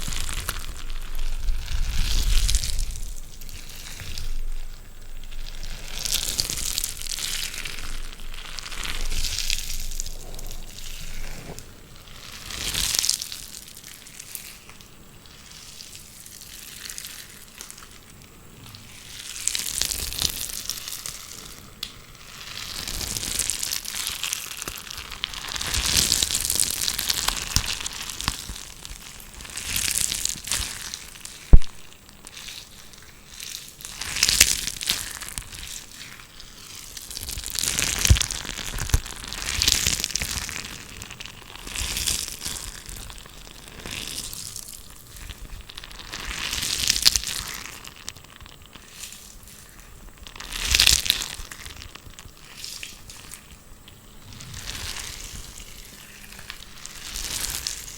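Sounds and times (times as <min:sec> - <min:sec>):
crunchy crinkly noise: 0:00.0 - 0:57.9.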